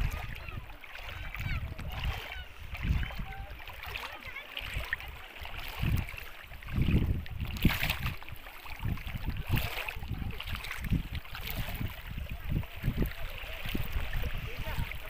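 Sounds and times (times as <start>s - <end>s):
sea water sloshing at shore: 0.0s - 15.0s
wind buffeting microphone: 0.0s - 15.0s.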